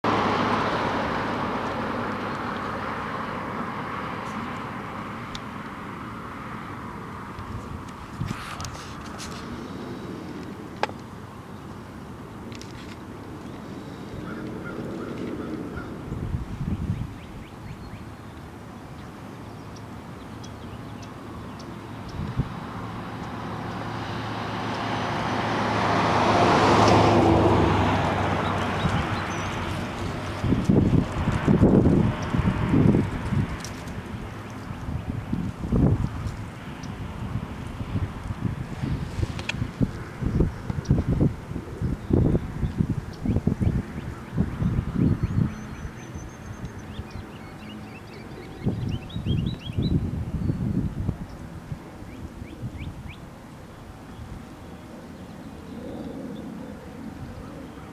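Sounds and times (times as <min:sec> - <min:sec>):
passing vehicle engine rumble: 0:00.0 - 0:57.9.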